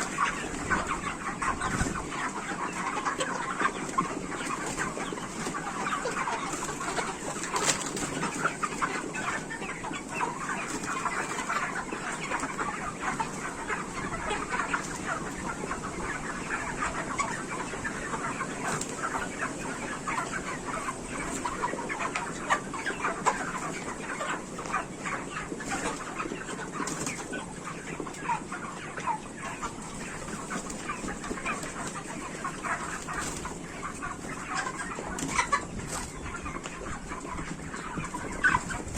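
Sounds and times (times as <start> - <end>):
flock of chickens clucking: 0.0 - 38.9.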